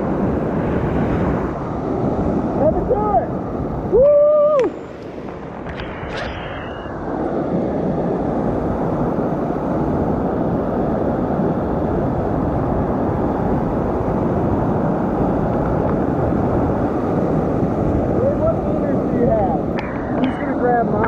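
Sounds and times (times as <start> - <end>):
whitewater rapid rushing: 0.0 - 21.0.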